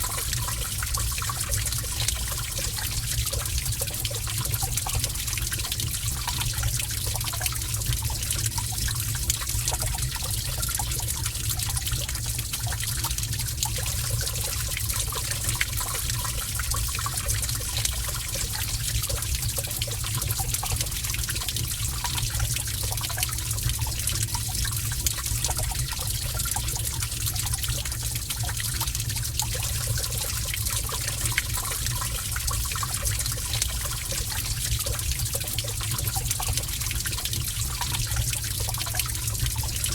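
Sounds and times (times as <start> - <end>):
water trickling in a cave: 0.0 - 39.9.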